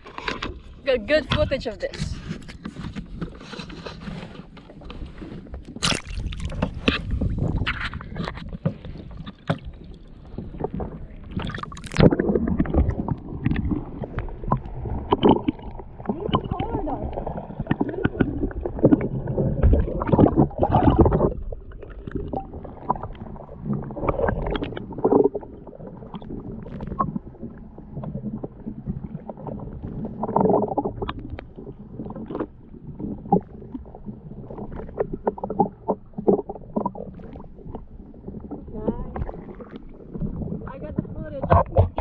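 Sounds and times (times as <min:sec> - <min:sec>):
water sloshing against kayak hull: 0:00.0 - 0:42.0.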